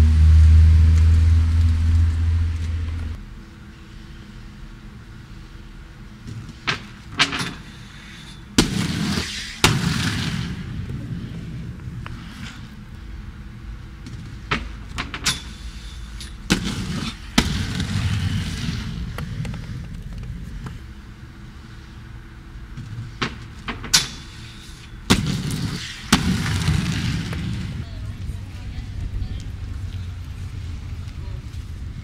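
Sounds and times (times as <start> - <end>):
skate wheels rolling on paving: 6.2 - 32.0.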